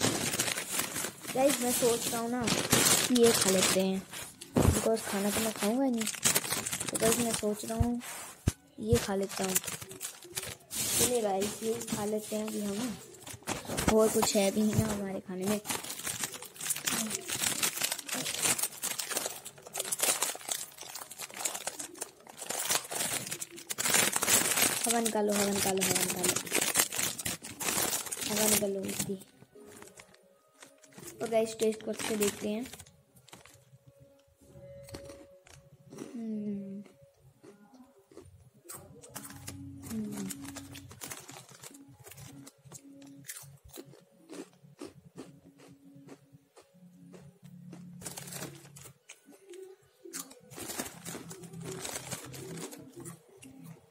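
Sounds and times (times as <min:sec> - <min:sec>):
plastic snack packet crinkling: 0:00.0 - 0:36.0, 0:38.1 - 0:45.7, 0:47.1 - 0:53.8.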